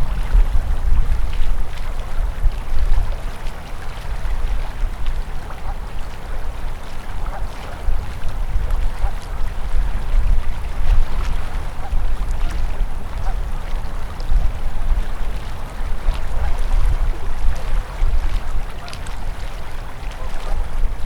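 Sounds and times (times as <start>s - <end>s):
river flowing and gurgling: 0.0s - 21.0s
wind buffeting microphone: 0.0s - 21.0s.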